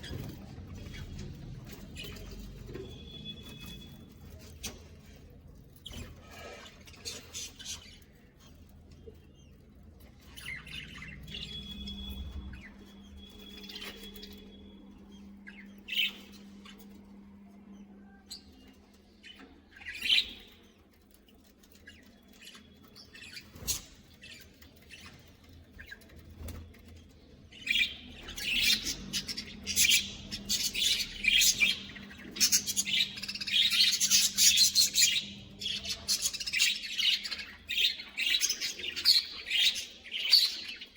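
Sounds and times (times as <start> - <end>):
budgerigars chirping and squawking: 0.0 - 17.1, 17.7 - 40.9.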